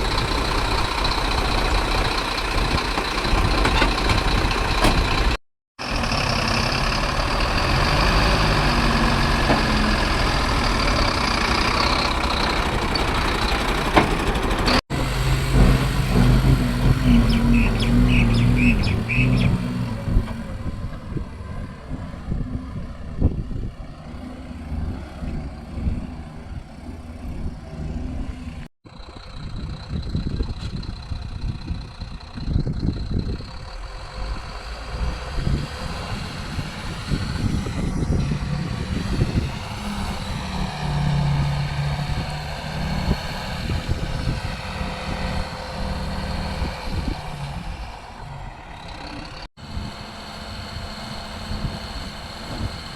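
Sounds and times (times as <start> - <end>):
excavator diesel engine: 0.0 - 52.9
truck diesel engine: 0.0 - 52.9.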